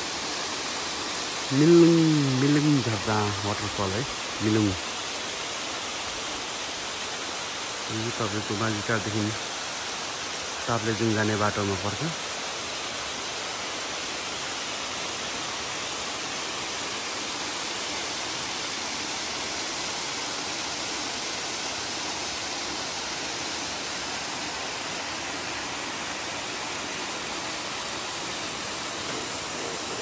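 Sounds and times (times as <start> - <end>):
waterfall rushing and splashing: 0.0 - 30.0.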